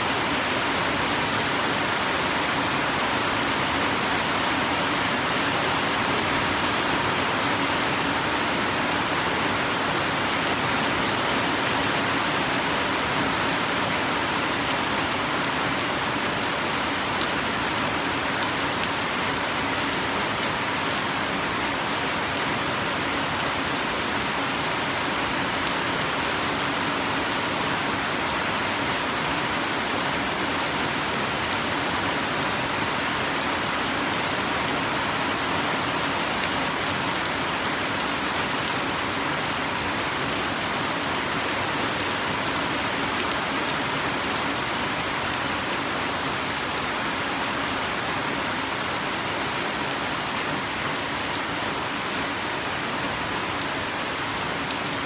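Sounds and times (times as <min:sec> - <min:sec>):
rain on concrete pavement: 0:00.0 - 0:55.0.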